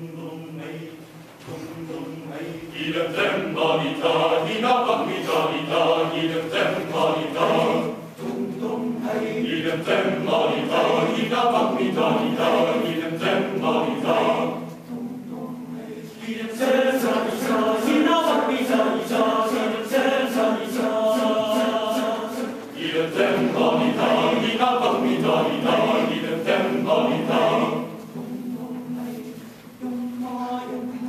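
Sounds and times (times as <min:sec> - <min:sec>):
male choir singing a cappella: 0:00.0 - 0:31.0.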